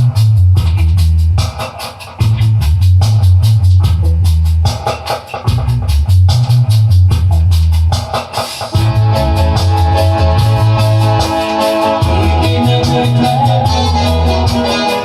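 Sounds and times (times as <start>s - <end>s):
reggae band playing: 0.0s - 15.0s.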